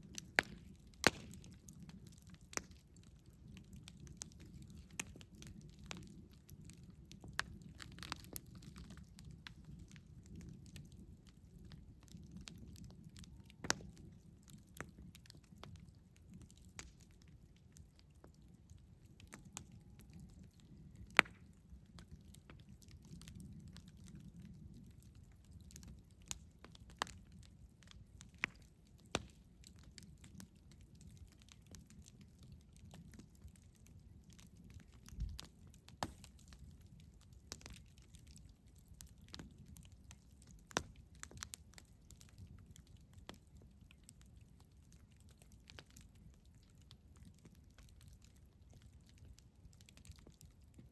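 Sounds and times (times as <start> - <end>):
campfire wood snapping and popping: 0.0 - 50.9
low steady fire rumble: 0.0 - 50.9.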